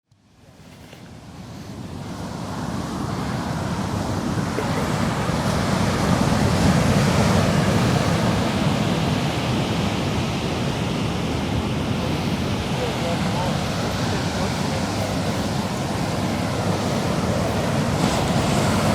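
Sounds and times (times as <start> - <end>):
ocean waves breaking: 0.5 - 18.9.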